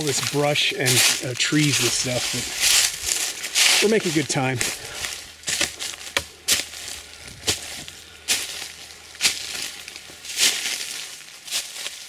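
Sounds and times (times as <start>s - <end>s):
footsteps crunching through dry leaves: 0.0s - 12.0s.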